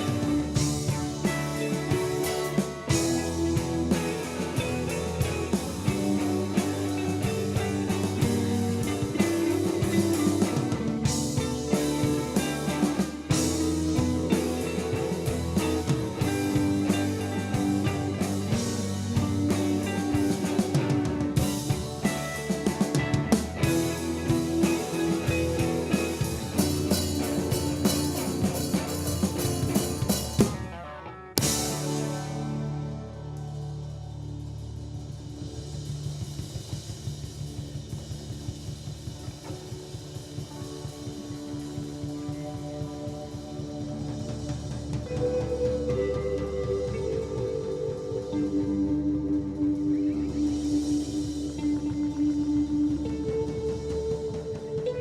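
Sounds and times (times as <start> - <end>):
bass guitar: 0.0 - 55.0
drum kit beat: 0.0 - 55.0
electric guitar: 0.0 - 55.0
rock band playing live: 0.0 - 55.0.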